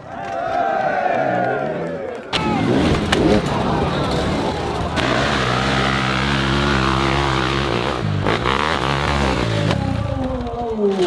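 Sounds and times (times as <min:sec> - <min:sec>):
dirt bike engines running: 0:00.4 - 0:11.0.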